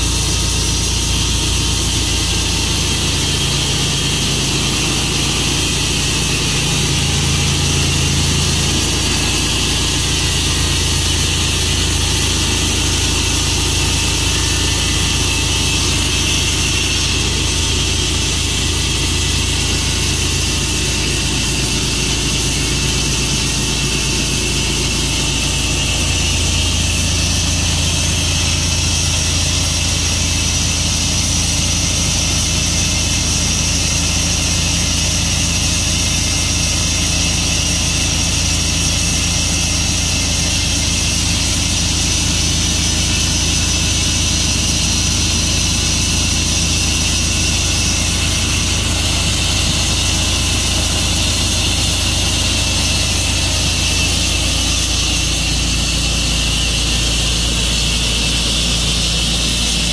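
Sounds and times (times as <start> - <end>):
sawmill engine droning: 0.0 - 59.9.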